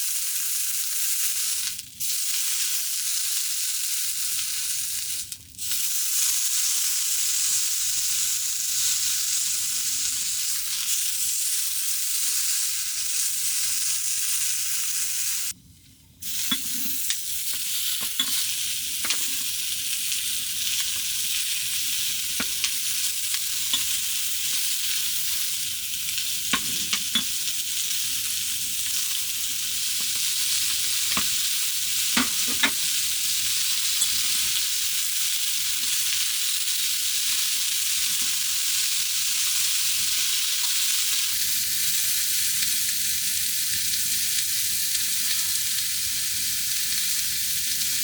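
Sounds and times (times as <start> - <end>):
food sizzling in a pan: 0.0 - 15.6, 16.2 - 48.0.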